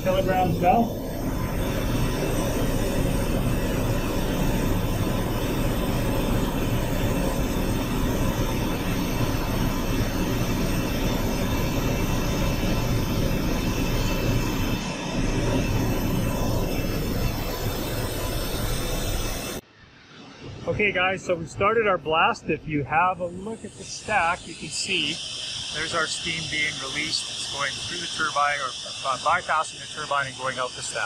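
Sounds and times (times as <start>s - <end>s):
steam venting: 0.0s - 19.6s, 20.3s - 31.0s.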